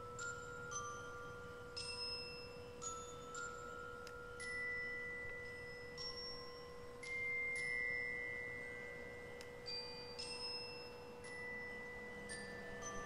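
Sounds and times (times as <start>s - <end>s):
bell-like mallet percussion notes: 0.0s - 13.0s
steady held tone: 0.0s - 13.0s.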